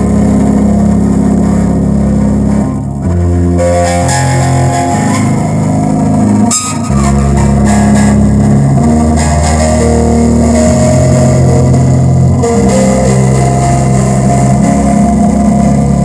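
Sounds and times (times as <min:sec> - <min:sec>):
bass-heavy music with guitar: 0:00.0 - 0:16.0.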